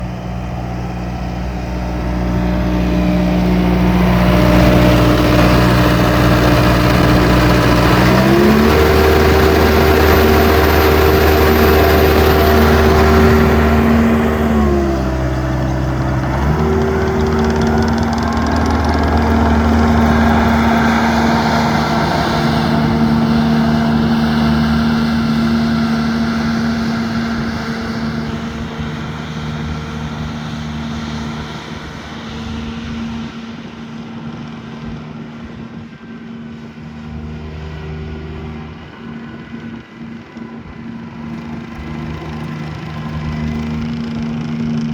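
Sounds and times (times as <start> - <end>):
loader diesel engine running: 0.0 - 33.9, 36.6 - 44.9.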